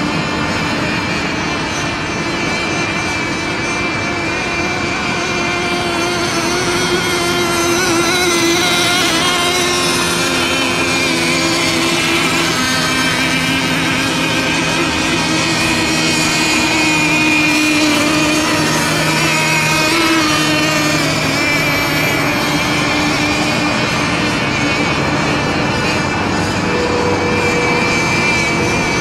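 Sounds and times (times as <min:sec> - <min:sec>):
model boat motors whining: 0:00.0 - 0:29.0.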